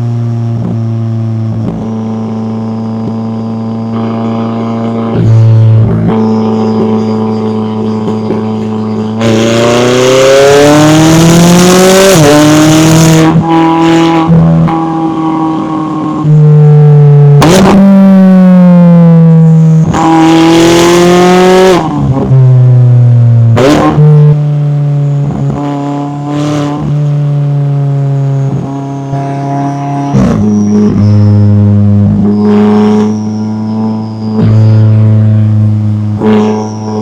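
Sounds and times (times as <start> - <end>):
sports car engine and exhaust: 0.0 - 37.0.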